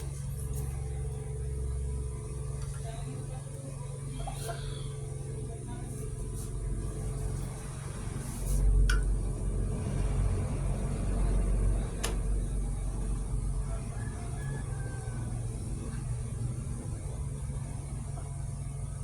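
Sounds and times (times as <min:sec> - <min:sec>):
low engine-like rumble: 0:00.0 - 0:19.0.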